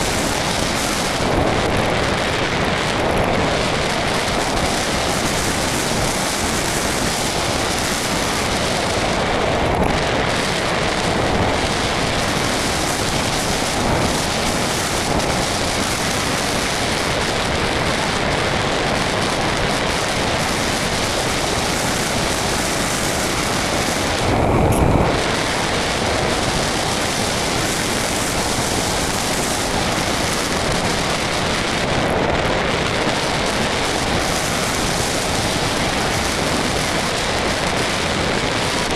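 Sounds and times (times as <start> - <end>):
low wind buffet: 0.0 - 38.9
wind rushing over microphone: 0.0 - 38.9.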